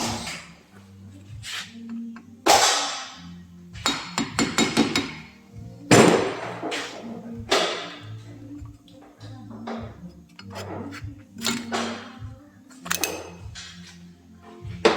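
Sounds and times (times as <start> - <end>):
background music with bass line: 0.0 - 14.9.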